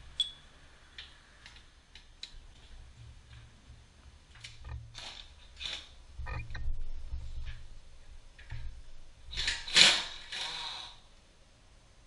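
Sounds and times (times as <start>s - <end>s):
low workshop hum: 0.0s - 12.0s.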